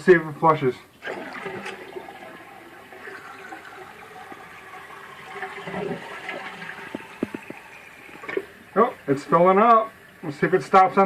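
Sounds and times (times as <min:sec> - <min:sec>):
toilet flushing: 0:01.0 - 0:11.0.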